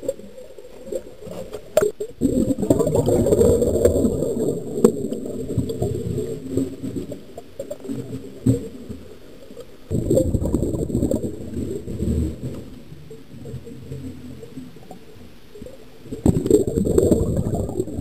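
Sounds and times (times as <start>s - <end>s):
muffled underwater crackling rumble: 0.0s - 18.0s.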